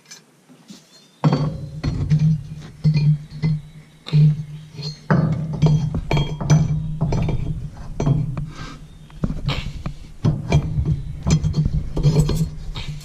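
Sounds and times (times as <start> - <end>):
metallic clinks and knocks: 1.2 - 13.0
low hum: 1.3 - 13.0.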